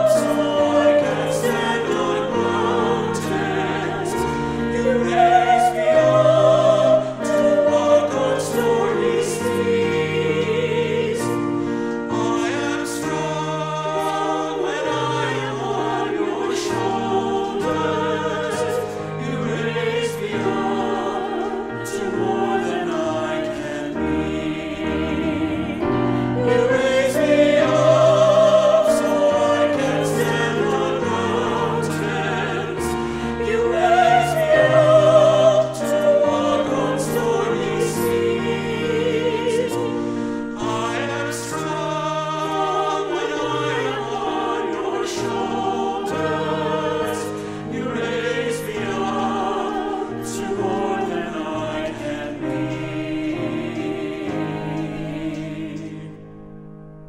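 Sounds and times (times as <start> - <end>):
mixed choir singing a hymn: 0.0 - 56.7.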